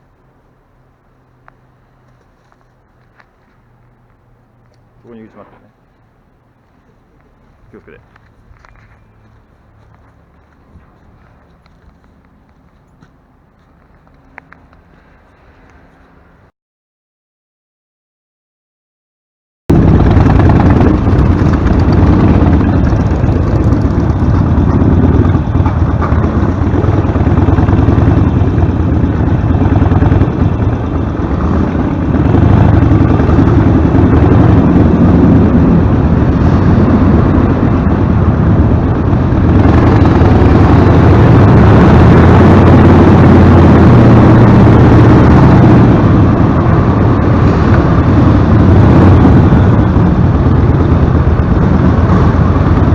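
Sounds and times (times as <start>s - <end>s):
motorcycle engine running: 6.6s - 16.2s, 19.7s - 52.9s.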